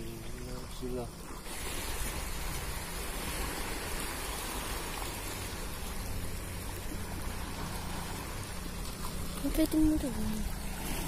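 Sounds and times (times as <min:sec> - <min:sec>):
small waves lapping over rocks: 0:00.0 - 0:11.0.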